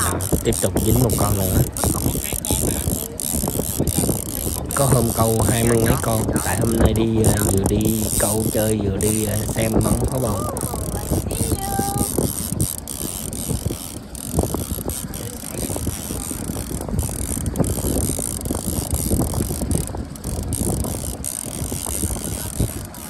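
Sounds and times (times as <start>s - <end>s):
fishing reel clicking: 0.0s - 23.0s
wind buffeting microphone: 0.0s - 23.0s.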